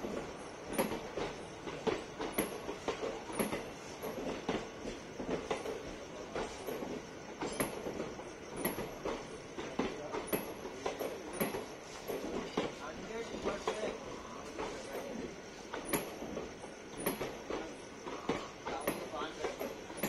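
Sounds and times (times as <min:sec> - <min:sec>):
train wheels clacking over rail joints: 0:00.0 - 0:20.0.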